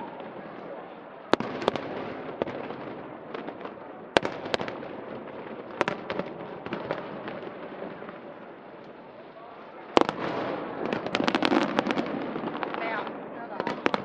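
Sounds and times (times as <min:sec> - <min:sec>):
background crowd hubbub: 0:00.0 - 0:14.0
distant fireworks bangs: 0:00.0 - 0:14.0.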